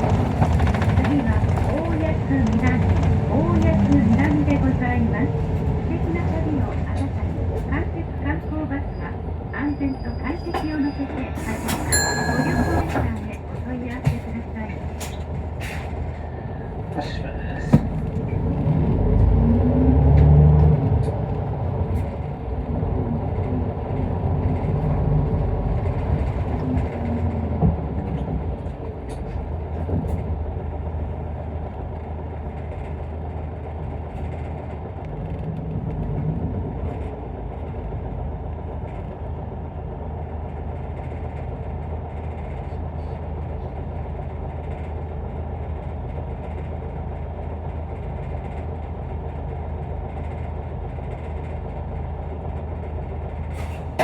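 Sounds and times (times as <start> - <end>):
bus diesel engine accelerating: 0.0 - 54.0
road hum: 0.0 - 54.0.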